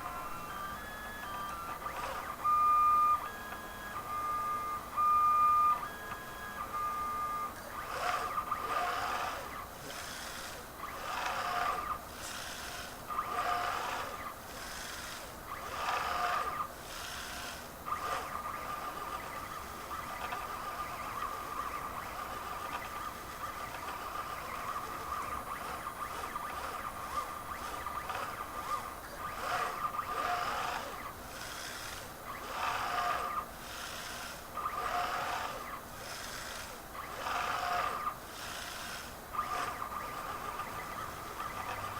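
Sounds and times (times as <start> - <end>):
stepper motors whining: 0.0 - 41.9.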